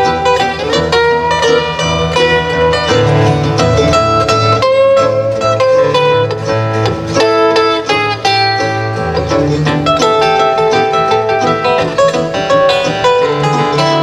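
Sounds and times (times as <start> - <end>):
acoustic guitars picking: 0.0 - 14.0
low bass notes: 0.0 - 14.0
mandolin picking: 0.0 - 14.0.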